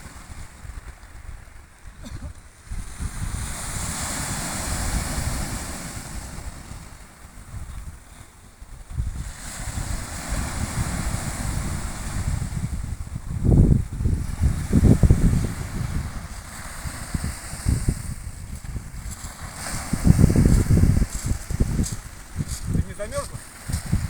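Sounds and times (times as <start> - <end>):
sea waves breaking on shore: 0.0 - 24.0
wind rumbling on microphone: 0.0 - 24.0.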